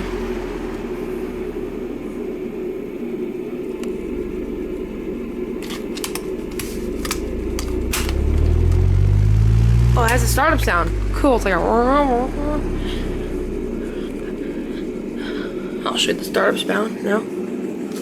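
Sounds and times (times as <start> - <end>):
table fan humming: 0.0 - 18.0.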